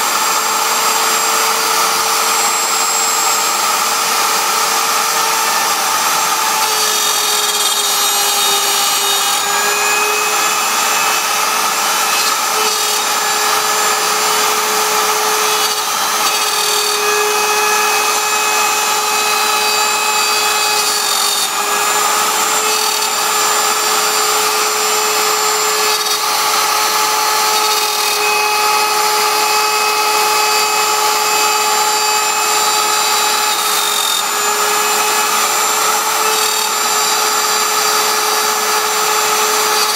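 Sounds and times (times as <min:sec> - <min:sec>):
bit cutting wood: 0:00.0 - 0:39.9
router spindle whine: 0:00.0 - 0:39.9.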